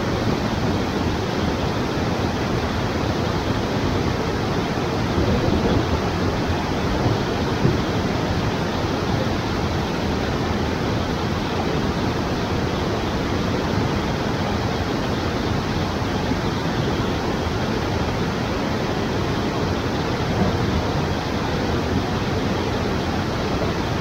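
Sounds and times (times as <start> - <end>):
water rushing through rapids: 0.0 - 24.0.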